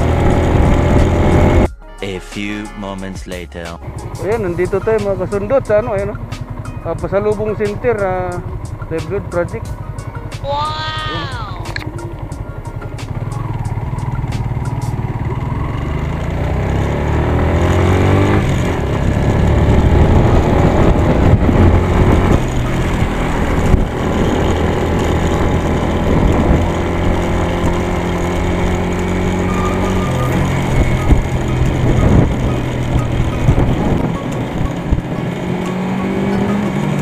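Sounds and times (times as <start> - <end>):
motorcycle engine accelerating: 0.0 - 1.8, 3.8 - 37.0.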